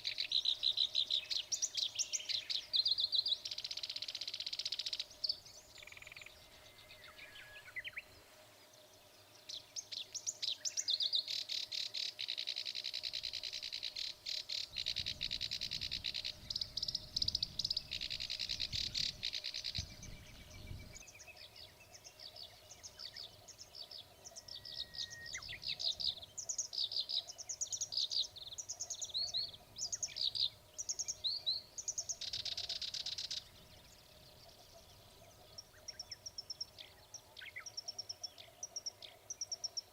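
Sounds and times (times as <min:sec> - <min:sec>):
reed warbler singing: 0:00.0 - 0:39.9.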